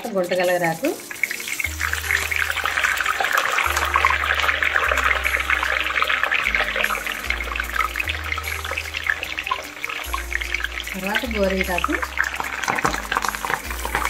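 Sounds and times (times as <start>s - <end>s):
oil bubbling and sizzling: 0.0s - 14.0s.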